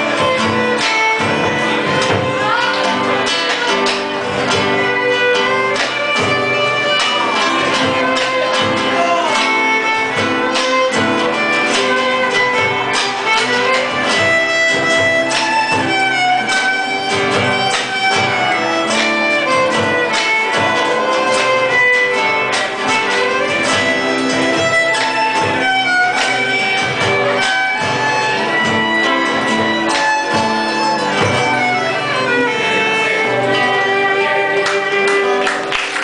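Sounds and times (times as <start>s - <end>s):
violin melody with sliding notes: 0.0s - 35.7s
acoustic guitars plucking and strumming: 0.0s - 36.0s.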